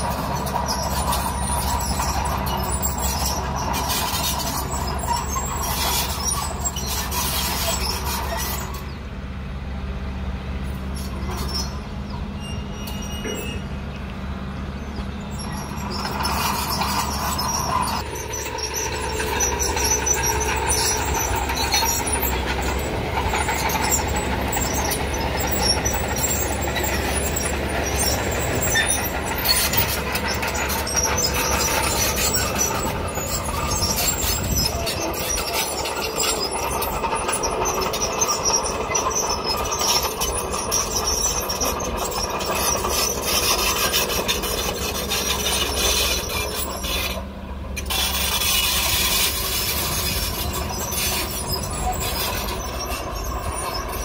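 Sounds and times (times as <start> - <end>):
bulldozer diesel engine running: 0.0 - 54.0
steel tracks clattering and scraping: 0.0 - 54.0.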